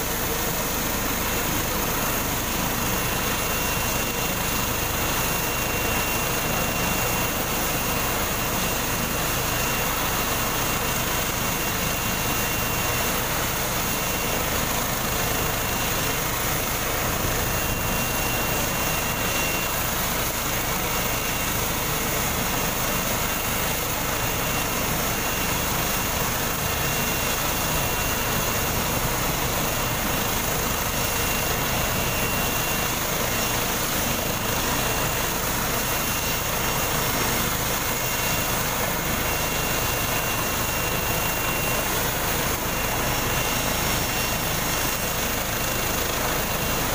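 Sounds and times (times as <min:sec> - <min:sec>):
helicopter idling: 0:00.0 - 0:46.9.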